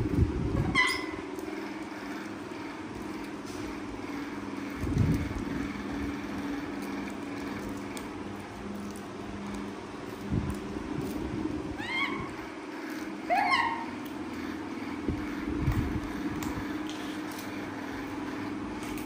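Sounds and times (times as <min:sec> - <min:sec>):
motor humming: 0:00.0 - 0:19.0.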